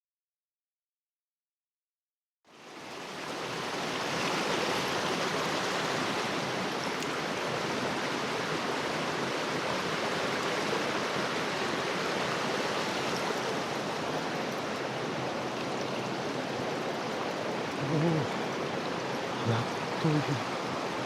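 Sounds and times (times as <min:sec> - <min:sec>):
mountain stream rushing: 0:02.5 - 0:21.0.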